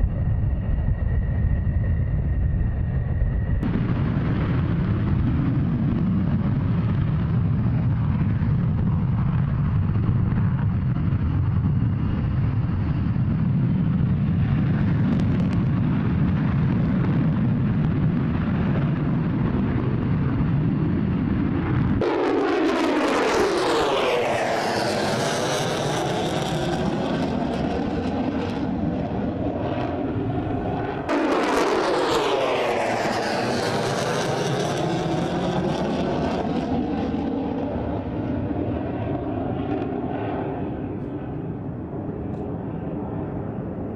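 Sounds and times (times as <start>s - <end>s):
jet engine rumble: 0.0s - 43.9s
jet passing: 0.0s - 43.9s.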